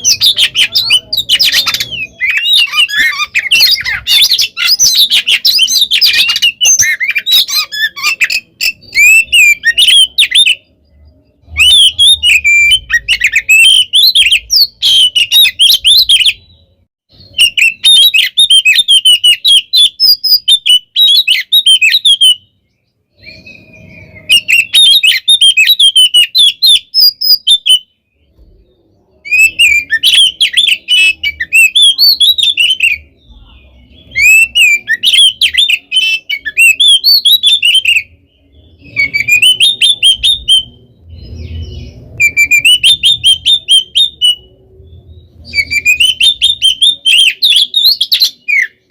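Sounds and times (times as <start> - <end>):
magpie-robin singing chirps: 0.0 - 48.9.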